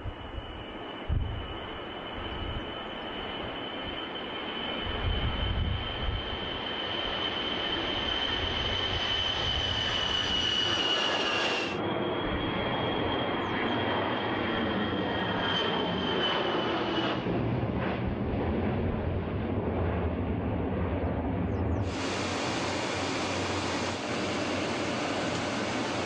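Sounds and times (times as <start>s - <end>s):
jet engines whining: 0.0s - 26.0s.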